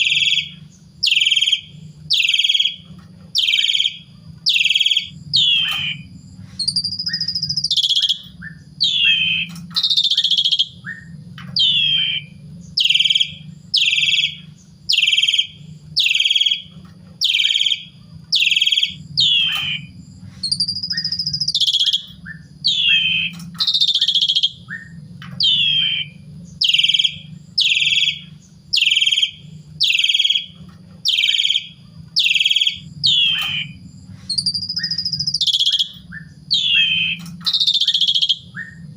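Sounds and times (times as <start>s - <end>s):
low steady hum: 0.0s - 38.9s
starling calling: 0.0s - 38.9s.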